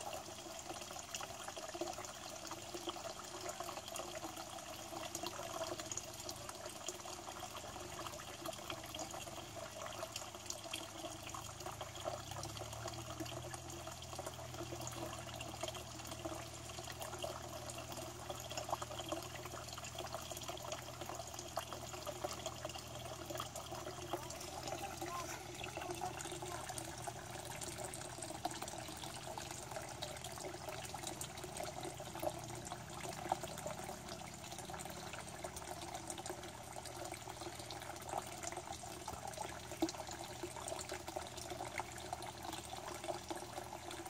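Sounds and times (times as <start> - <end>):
water splashing into pond: 0.0 - 44.0.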